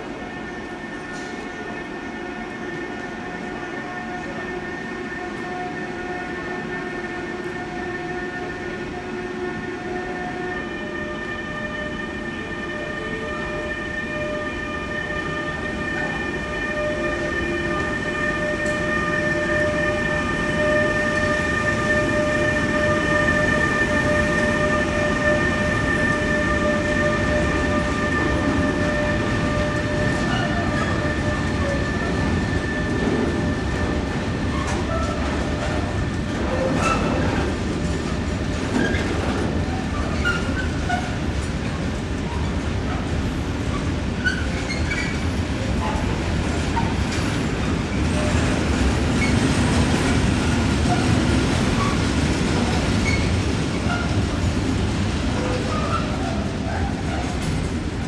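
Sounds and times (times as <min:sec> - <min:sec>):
electric locomotive whine: 0:00.0 - 0:58.0.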